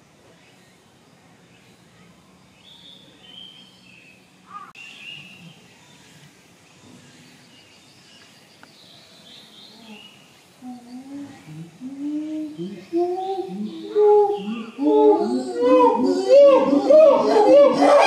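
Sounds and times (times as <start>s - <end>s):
quiet outdoor background noise: 0.0s - 18.0s.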